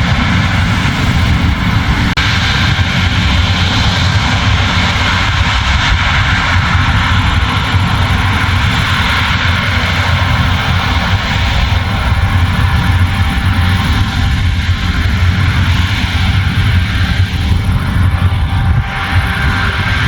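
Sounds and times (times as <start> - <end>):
combine harvester engine: 0.0 - 20.0.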